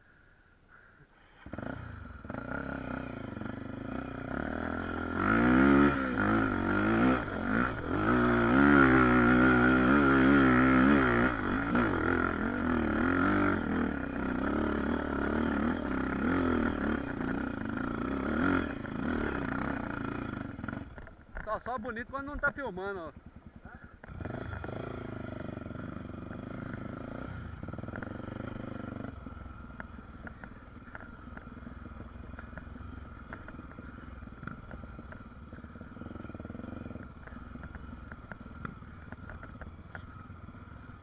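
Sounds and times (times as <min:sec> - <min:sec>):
motorcycle engine revving uphill: 0:01.4 - 0:41.0.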